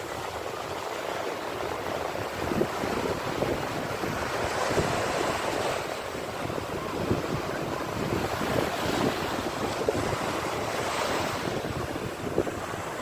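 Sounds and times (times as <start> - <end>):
sea waves breaking: 0.0 - 13.0.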